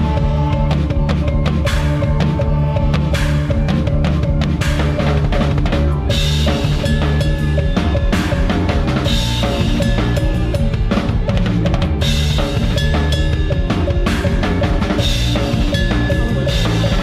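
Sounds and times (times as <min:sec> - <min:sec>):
band playing pitched parts: 0:00.0 - 0:17.0.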